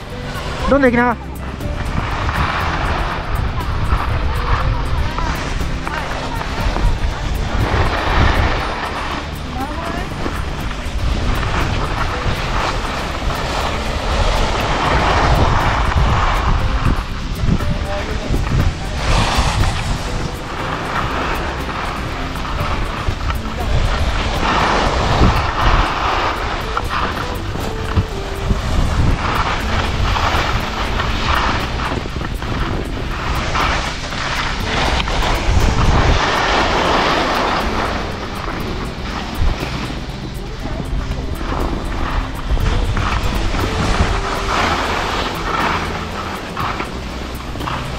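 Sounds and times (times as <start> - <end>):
skis sliding over snow: 0.0 - 47.9
wind rumbling on microphone: 0.0 - 47.9.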